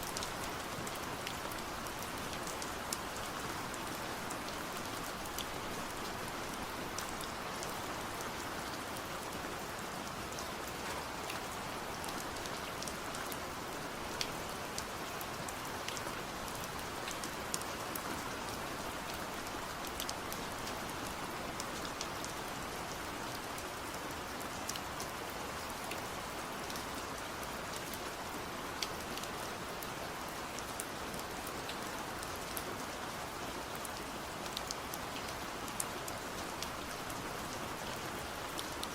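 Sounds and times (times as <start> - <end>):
raindrops ticking on surface: 0.0 - 38.9
steady rain hiss: 0.0 - 38.9.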